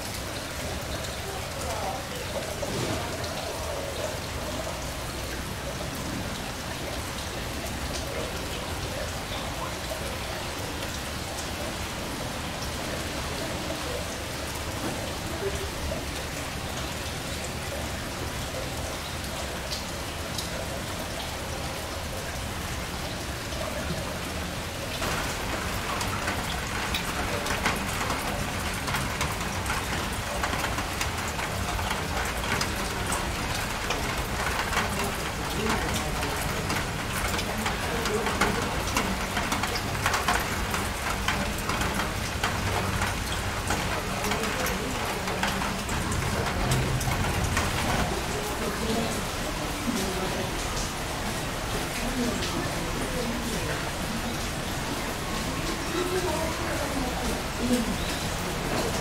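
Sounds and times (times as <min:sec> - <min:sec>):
raindrop ticks: 0:00.0 - 0:59.0
steady rain falling: 0:00.0 - 0:59.0.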